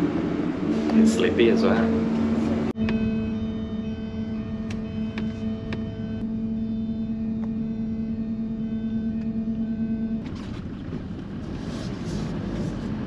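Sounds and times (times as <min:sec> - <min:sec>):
van cabin drone while driving: 0:00.0 - 0:13.0.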